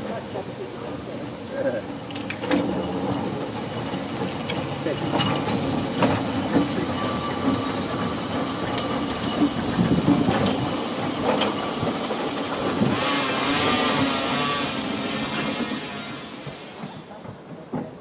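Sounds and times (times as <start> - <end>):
tram rolling on rails: 0.0 - 18.0.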